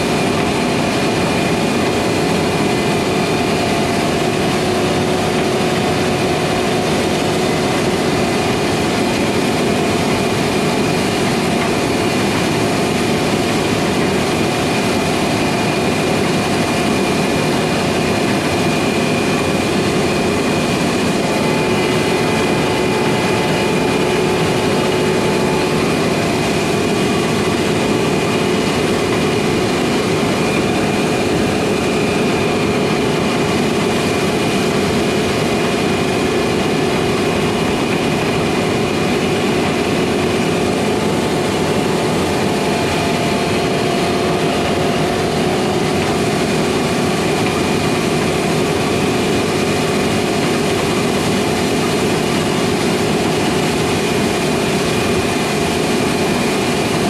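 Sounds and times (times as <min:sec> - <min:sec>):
combine harvesters running: 0:00.0 - 0:57.0.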